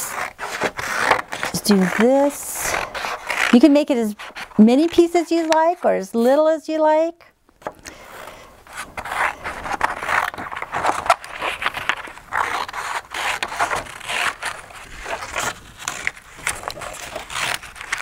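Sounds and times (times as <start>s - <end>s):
scissors cutting paper: 0.0s - 6.5s, 8.9s - 18.0s.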